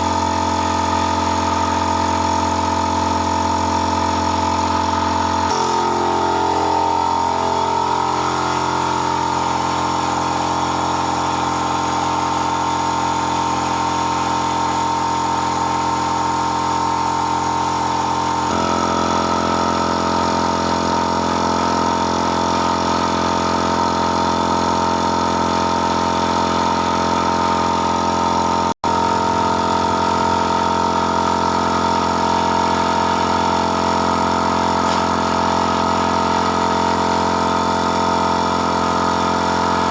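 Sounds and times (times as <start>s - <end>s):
machine motor humming: 0.0s - 39.9s.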